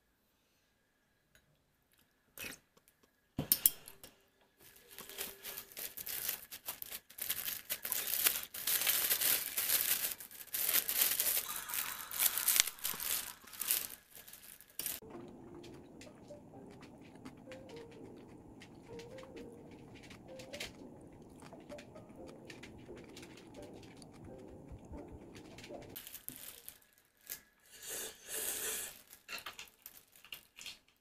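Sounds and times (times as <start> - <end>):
wrapping crinkling and tearing: 4.6 - 27.8, 28.5 - 31.0.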